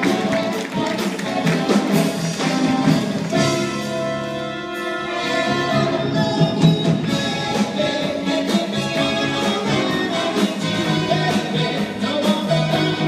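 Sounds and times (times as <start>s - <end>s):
band playing: 0.0s - 13.0s.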